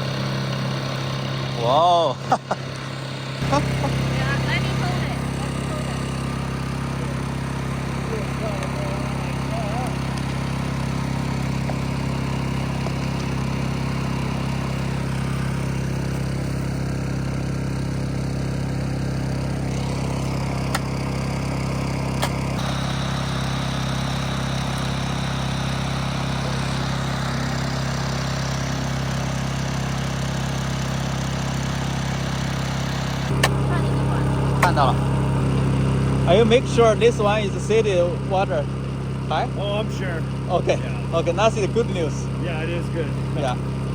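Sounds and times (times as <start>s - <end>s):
engine idling hum: 0.0s - 43.9s.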